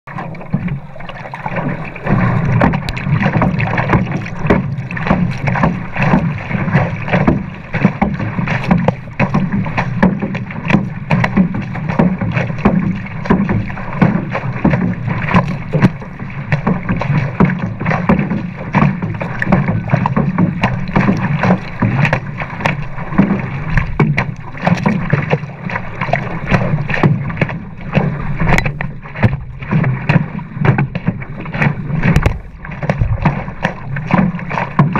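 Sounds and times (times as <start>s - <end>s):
water splashing and rushing: 0.0s - 34.9s.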